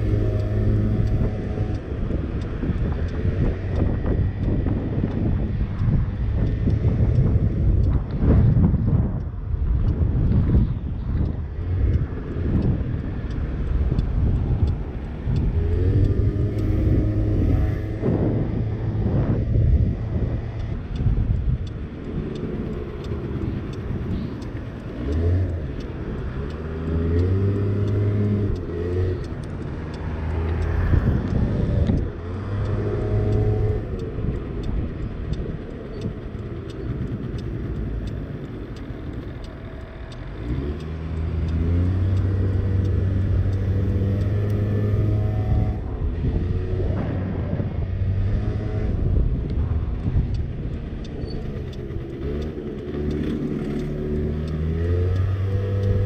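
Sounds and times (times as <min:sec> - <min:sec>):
motorbike engine revving: 0:00.0 - 0:09.1, 0:11.4 - 0:56.0.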